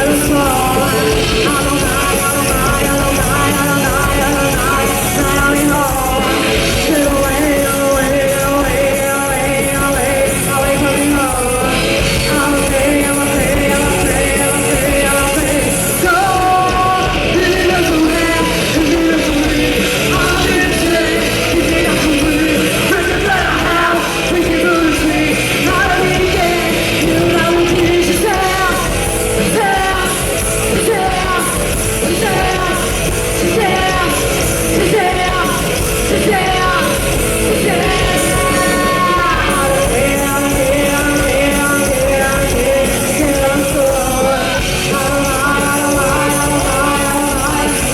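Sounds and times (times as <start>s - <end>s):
live rock band playing: 0.0s - 47.9s
woman singing in shouted style: 0.0s - 47.9s.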